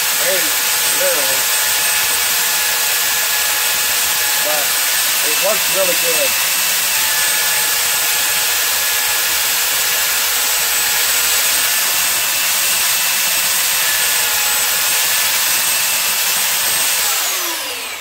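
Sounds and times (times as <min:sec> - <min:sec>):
belt sander running: 0:00.0 - 0:18.0
wooden block sanded on belt: 0:00.0 - 0:18.0.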